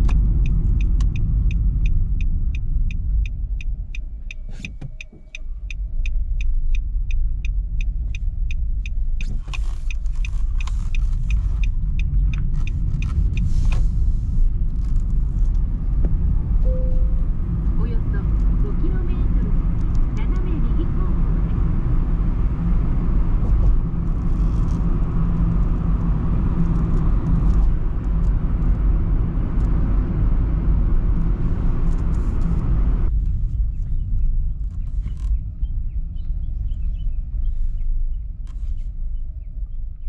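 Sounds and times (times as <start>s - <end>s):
car tyres and engine rumble: 0.0s - 40.0s.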